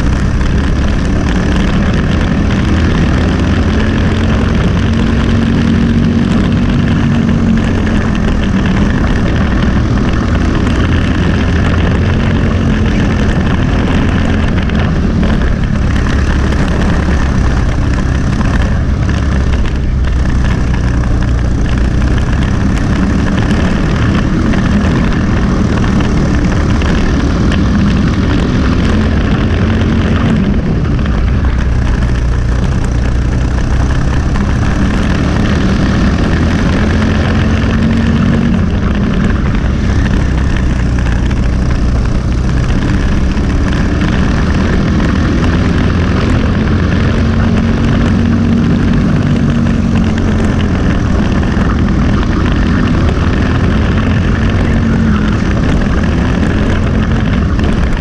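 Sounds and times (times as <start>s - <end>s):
kart engine running hard: 0.0s - 58.0s.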